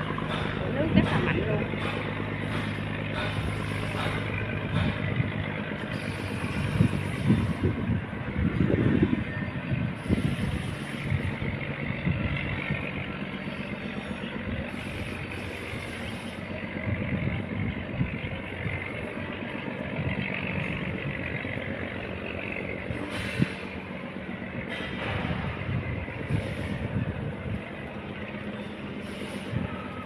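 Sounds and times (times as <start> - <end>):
diesel engine running hard: 0.0 - 30.0.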